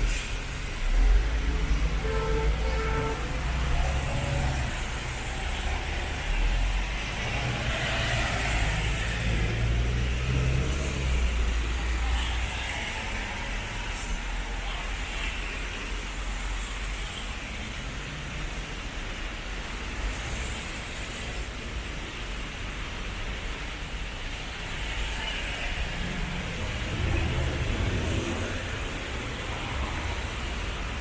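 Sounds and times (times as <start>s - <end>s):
engine rumble: 0.0s - 31.0s
tyres hissing on road: 0.0s - 31.0s.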